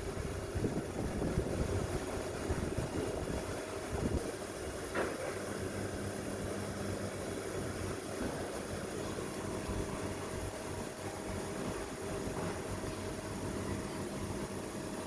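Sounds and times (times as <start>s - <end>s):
machine hum and rumble: 0.0s - 15.0s.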